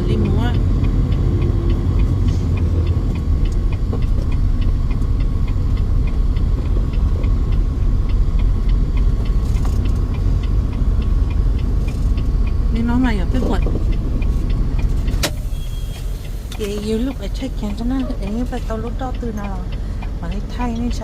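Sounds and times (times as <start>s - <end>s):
light ticking: 0.0s - 21.0s
truck rumbling from inside cab: 0.0s - 21.0s.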